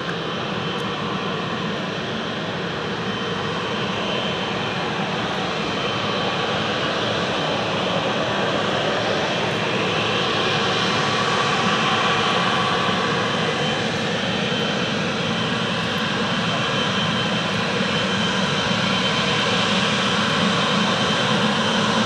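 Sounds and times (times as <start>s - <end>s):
jet engines rushing and whining: 0.0s - 22.0s.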